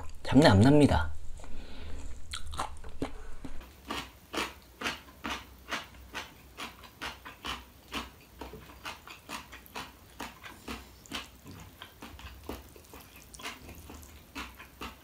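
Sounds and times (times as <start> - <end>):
close-up chewing: 1.4 - 15.0.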